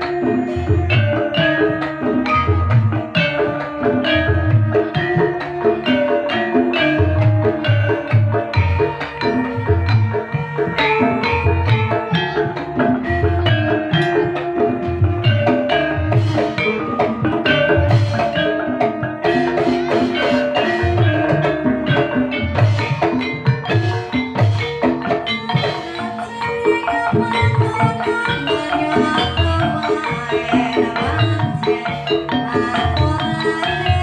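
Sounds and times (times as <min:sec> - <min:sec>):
gamelan music: 0:00.0 - 0:34.0.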